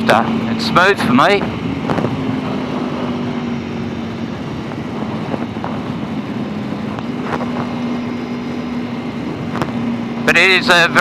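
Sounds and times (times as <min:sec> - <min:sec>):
motorcycle engine hum: 0:00.0 - 0:11.0
wind rushing past microphone: 0:00.2 - 0:10.3.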